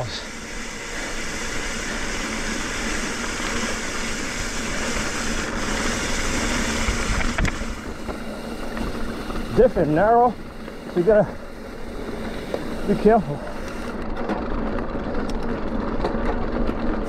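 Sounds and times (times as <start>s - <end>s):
bike tyre noise: 0.0s - 17.0s.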